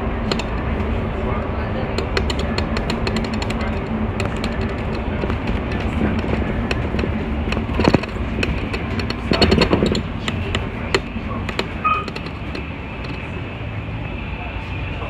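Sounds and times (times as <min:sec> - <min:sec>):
interior fittings rattling: 0:00.0 - 0:14.2
bus engine and road rumble: 0:00.0 - 0:15.0.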